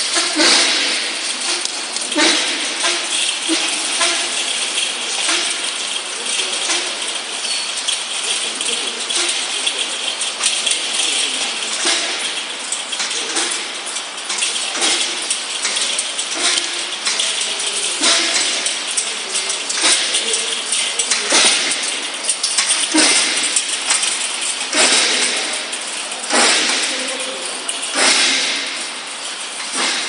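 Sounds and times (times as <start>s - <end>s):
wire mesh rattling against metal: 0.0s - 30.0s.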